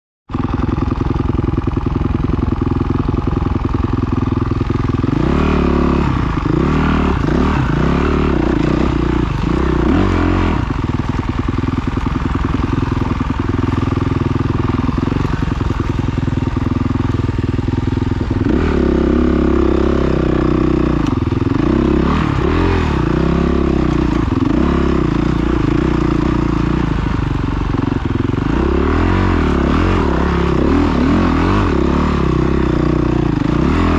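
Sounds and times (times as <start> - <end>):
motocross bike engine revving: 0.3 - 33.9.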